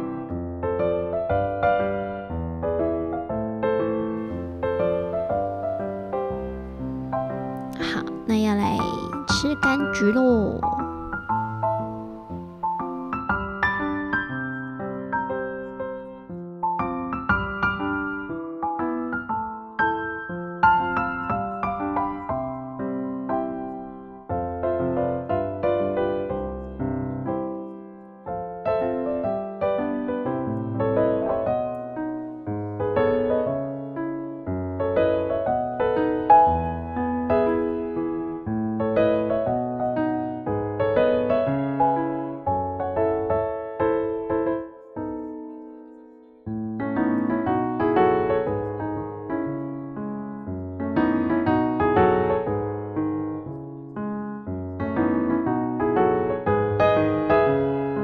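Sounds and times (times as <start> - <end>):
solo piano music: 0.0 - 58.0.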